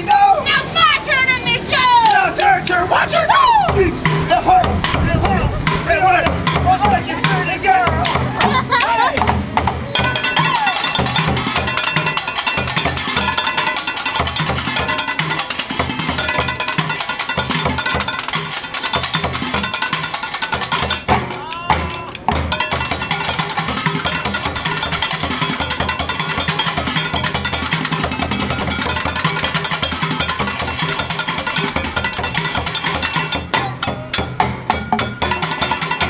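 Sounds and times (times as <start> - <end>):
steady drum beat: 1.8 - 36.0.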